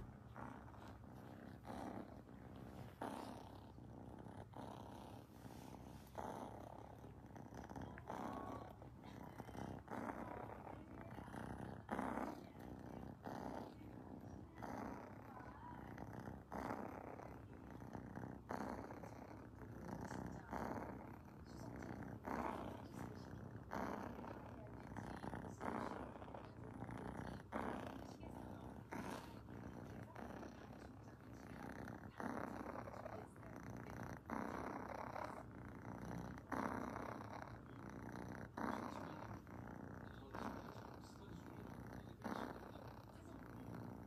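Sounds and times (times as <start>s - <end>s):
kitten purring: 0.0s - 44.0s.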